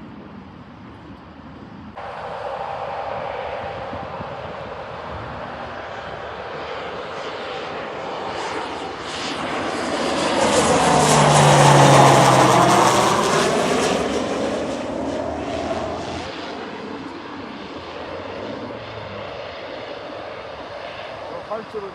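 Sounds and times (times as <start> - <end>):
jet aircraft flying low past: 0.0 - 21.9.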